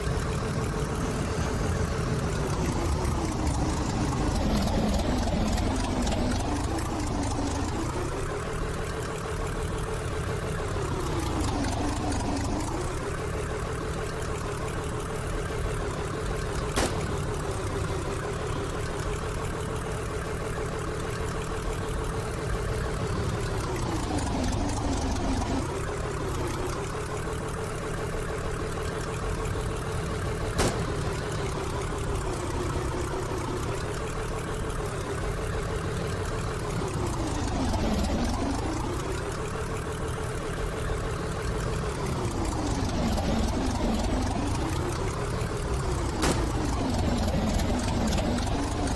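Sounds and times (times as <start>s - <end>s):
machine motor whine and rumble: 0.0s - 48.9s.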